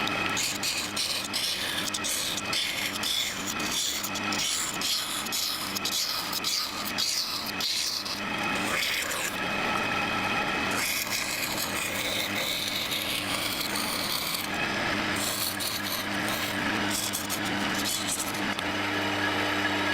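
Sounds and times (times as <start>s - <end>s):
file rasping on knife: 0.0s - 9.4s, 10.7s - 18.6s.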